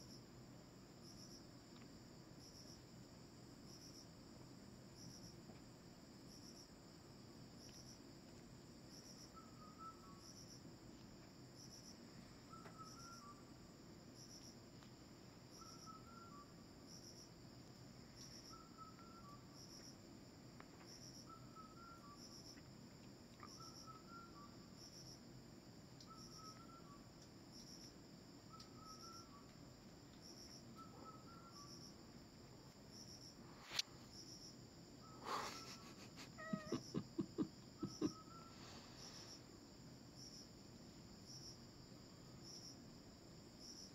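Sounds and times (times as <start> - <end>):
high insect chirping: 0.0 - 43.9.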